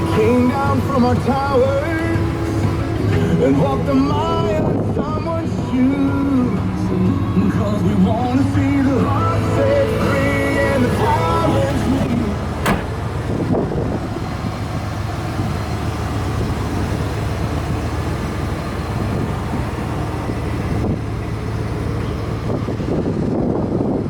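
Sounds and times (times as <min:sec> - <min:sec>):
pickup truck engine running: 0:00.0 - 0:24.0
wind noise on microphone: 0:00.0 - 0:24.0.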